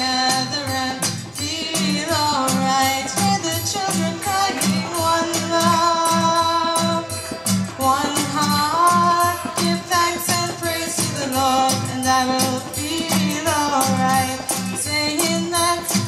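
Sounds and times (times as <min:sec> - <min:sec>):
rhythmic guitar accompaniment: 0:00.0 - 0:16.0.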